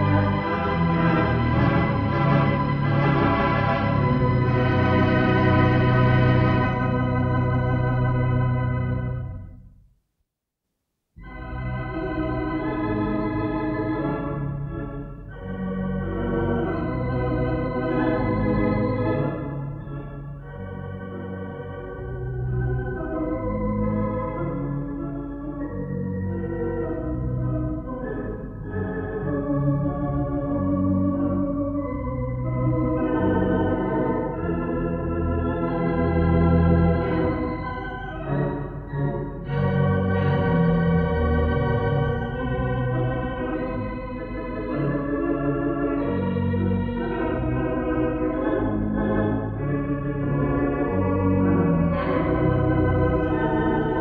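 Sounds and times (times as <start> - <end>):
pipe organ sustained chords: 0.0 - 9.6, 11.2 - 54.0.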